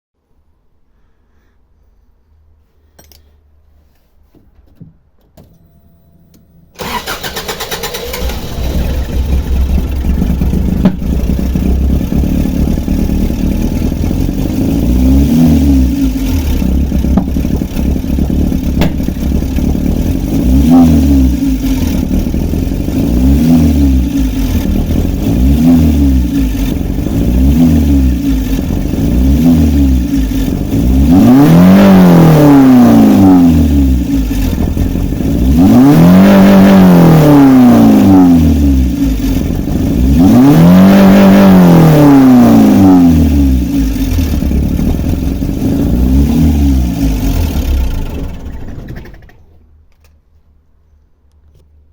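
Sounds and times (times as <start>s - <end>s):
car engine revving: 6.8s - 49.4s.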